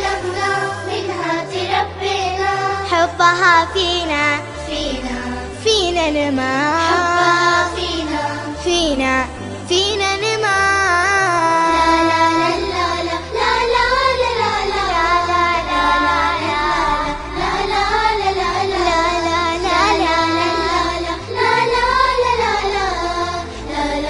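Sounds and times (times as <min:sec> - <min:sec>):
children singing in unison: 0:00.0 - 0:05.7, 0:06.3 - 0:08.8, 0:10.2 - 0:24.0
musical backing with bass line: 0:00.0 - 0:24.0.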